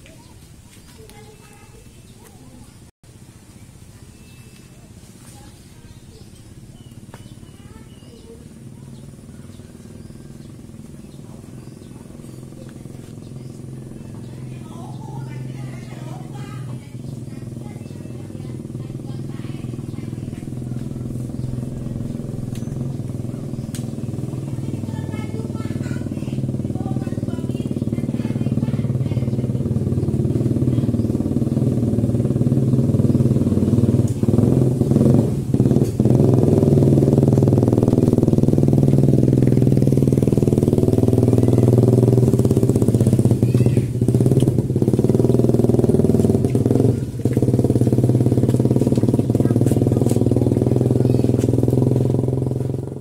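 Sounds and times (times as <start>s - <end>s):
small engine running: 6.1s - 53.0s.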